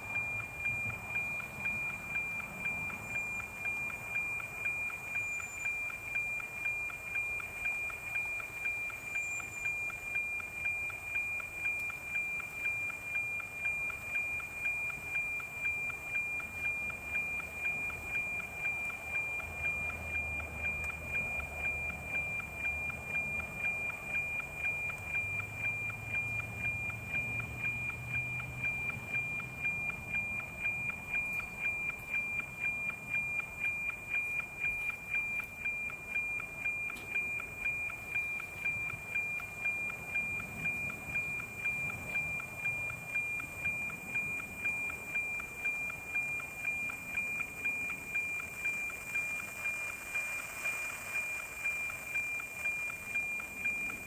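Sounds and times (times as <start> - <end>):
satellite signal tone with ticking beat: 0.0 - 54.0.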